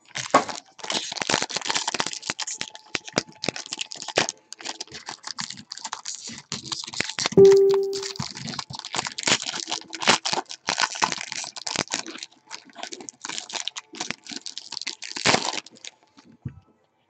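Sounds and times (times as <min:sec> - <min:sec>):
foil wrapper tearing and crinkling: 0:00.1 - 0:07.2, 0:09.0 - 0:16.0.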